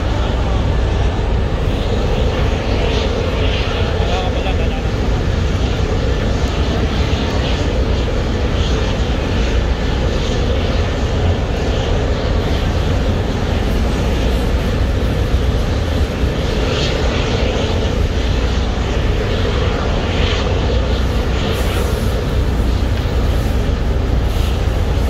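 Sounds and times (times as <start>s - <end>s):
constant rushing noise: 0.0s - 25.0s
heavy machinery drone: 0.0s - 25.0s.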